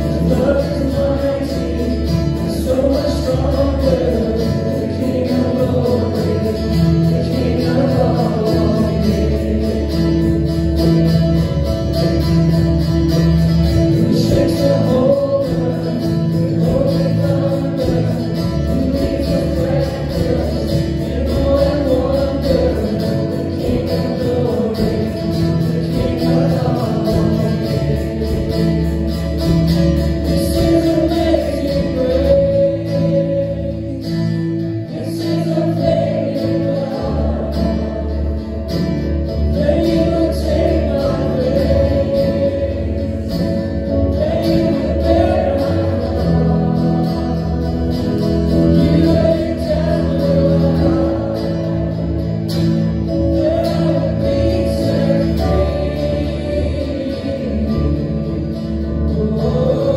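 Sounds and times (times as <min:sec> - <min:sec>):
other guitars: 0:00.0 - 0:59.9
strummed acoustic guitar: 0:00.0 - 0:59.9
voices singing: 0:00.0 - 0:59.9.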